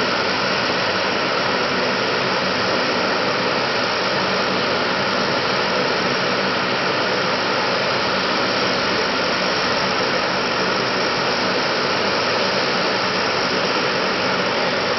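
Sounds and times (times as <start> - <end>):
turboprop engines running: 0.0 - 14.9.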